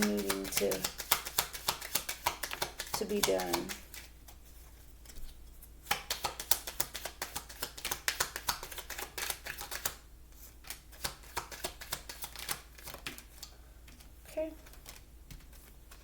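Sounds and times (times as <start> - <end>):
playing cards shuffling: 0.0 - 14.0, 14.6 - 16.0.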